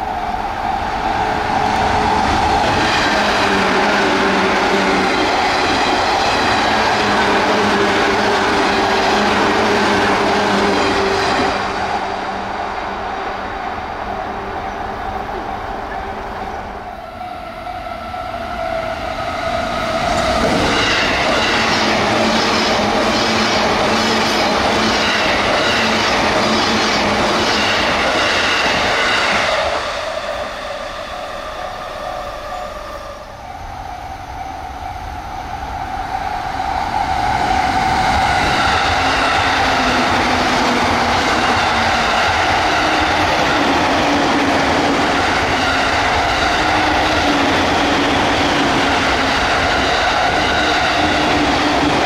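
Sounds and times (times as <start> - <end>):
electric trains passing at speed: 0.0 - 52.0.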